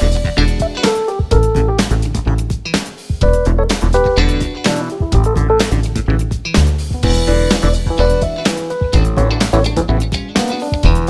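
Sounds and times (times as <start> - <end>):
upbeat music with guitar: 0.0 - 11.0.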